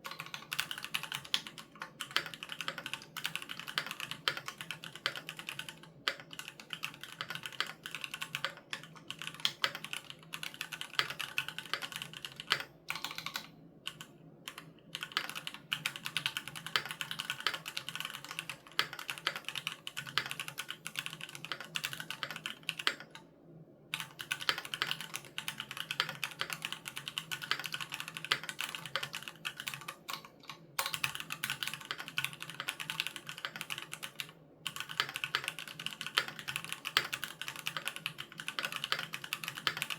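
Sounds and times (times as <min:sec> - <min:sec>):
fast mechanical keyboard typing: 0:00.0 - 0:23.2, 0:23.9 - 0:39.9.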